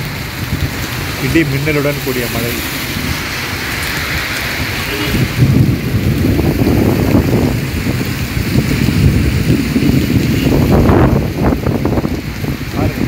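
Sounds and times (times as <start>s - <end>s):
heavy rain hissing: 0.0s - 13.0s
wind buffeting microphone: 0.0s - 13.0s.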